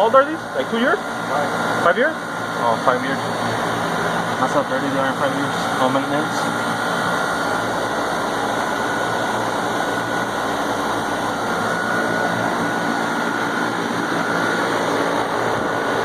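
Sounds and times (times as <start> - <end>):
air conditioner fan and compressor: 0.0 - 16.0
high whine: 0.0 - 16.0.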